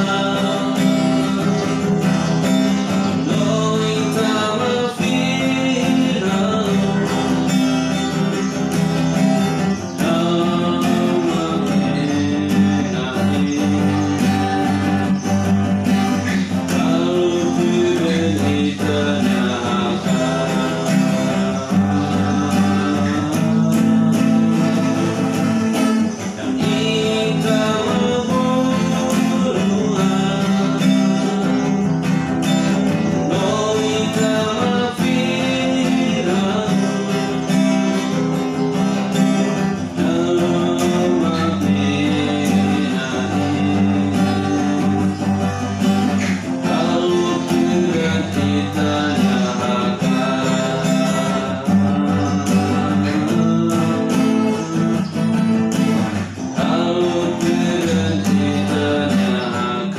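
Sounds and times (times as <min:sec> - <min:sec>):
acoustic guitar strumming: 0:00.0 - 0:59.9
man singing: 0:00.0 - 0:59.9.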